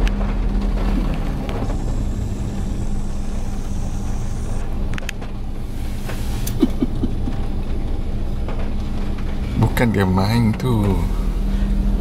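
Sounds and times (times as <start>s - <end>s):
car cabin rumble and hum: 0.0s - 12.0s.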